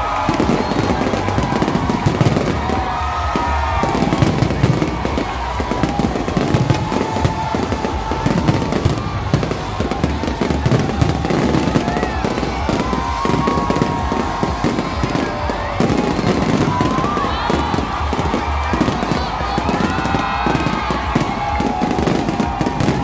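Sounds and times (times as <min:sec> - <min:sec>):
fireworks popping and crackling: 0:00.0 - 0:23.0.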